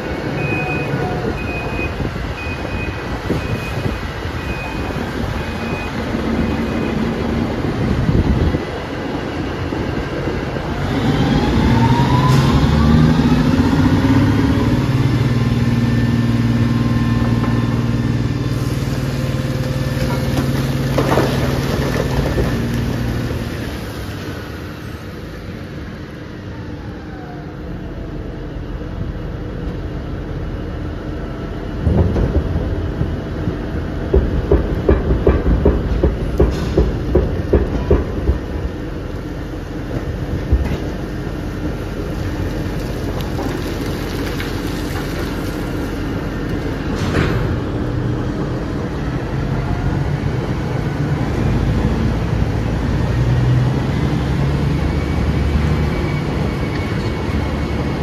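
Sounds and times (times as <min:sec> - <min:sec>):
diesel truck engine running hard: 0:00.0 - 0:58.0.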